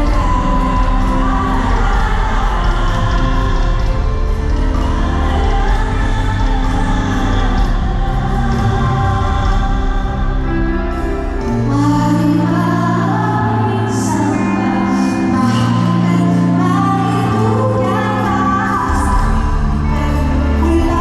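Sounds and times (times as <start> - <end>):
live band music: 0.0 - 21.0
woman singing long notes: 0.0 - 21.0.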